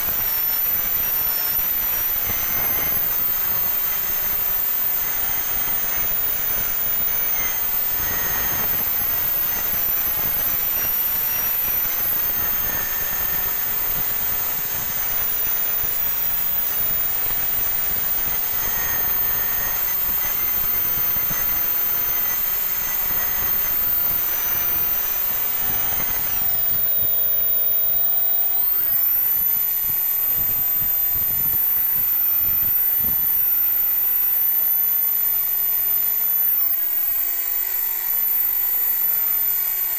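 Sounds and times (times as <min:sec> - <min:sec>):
power tool whining: 0:00.0 - 0:39.9.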